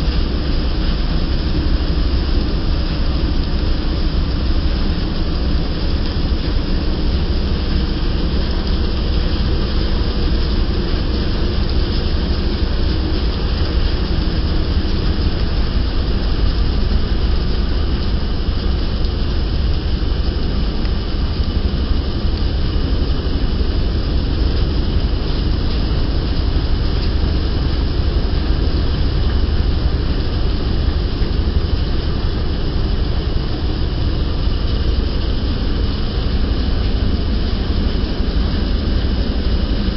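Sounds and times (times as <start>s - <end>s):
wheat thresher running: 0.0s - 39.9s.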